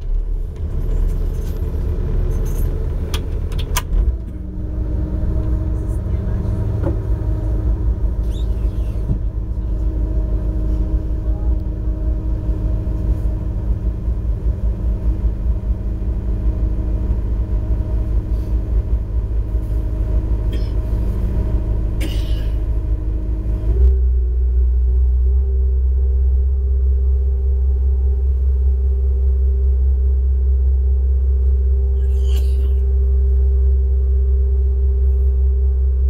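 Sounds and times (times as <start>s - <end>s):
boat engine drone: 0.0s - 36.0s.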